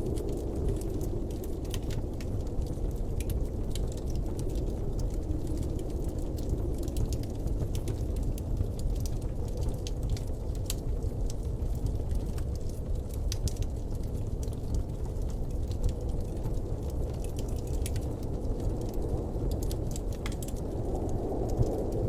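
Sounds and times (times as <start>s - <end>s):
blizzard wind rushing: 0.0s - 13.2s, 14.0s - 22.0s
faint ticks and crackles: 0.0s - 22.0s.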